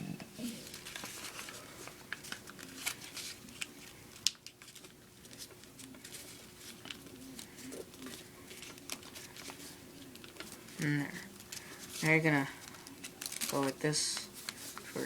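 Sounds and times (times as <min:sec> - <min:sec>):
paper crinkling as it is folded: 0:00.6 - 0:15.0.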